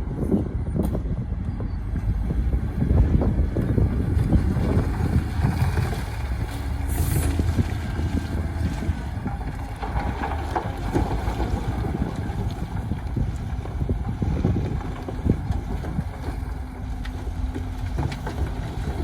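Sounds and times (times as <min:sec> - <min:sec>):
diesel machinery rumbling: 0:00.0 - 0:19.0.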